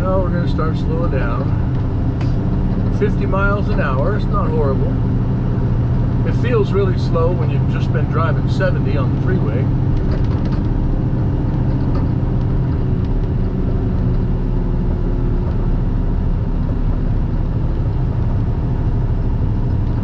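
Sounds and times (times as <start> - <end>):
diesel engine hum: 0.0 - 20.0
road and tyre noise: 0.0 - 20.0.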